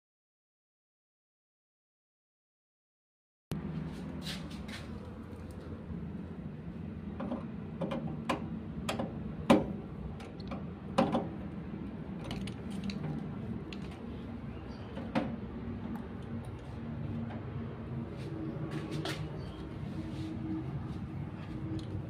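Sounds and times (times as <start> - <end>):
steady low hum: 3.5 - 22.0.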